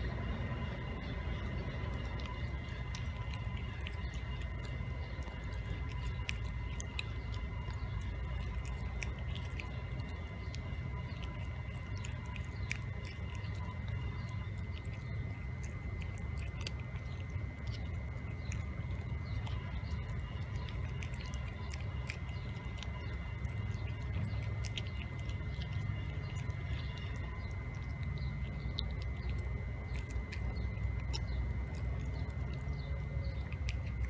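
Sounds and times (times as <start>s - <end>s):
cat chewing: 0.0s - 34.0s
faint high whine: 0.0s - 34.0s
low rumble: 0.0s - 34.0s.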